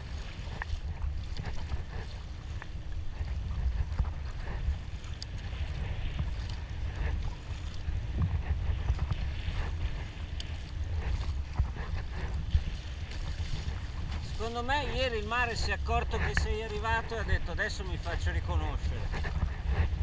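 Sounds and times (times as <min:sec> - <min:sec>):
low wind rumble on microphone: 0:00.0 - 0:20.0
paddle blades splashing: 0:00.0 - 0:20.0
water washing along hull: 0:00.0 - 0:20.0.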